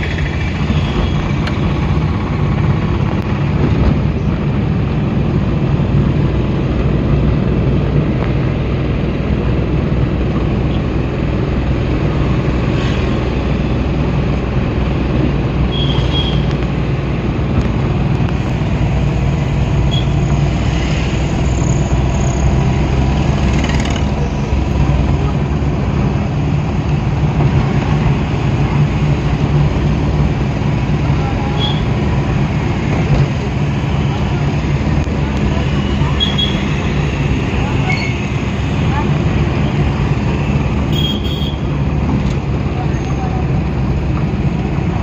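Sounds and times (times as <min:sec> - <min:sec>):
vehicle cabin engine and road noise: 0:00.0 - 0:45.0.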